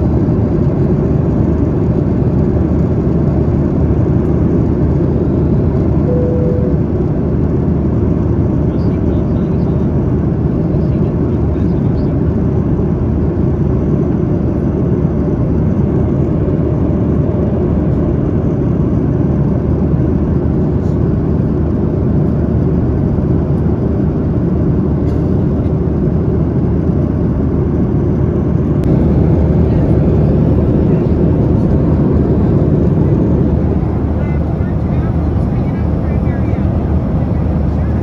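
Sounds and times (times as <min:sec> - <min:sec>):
jet engine cabin roar: 0:00.0 - 0:38.0.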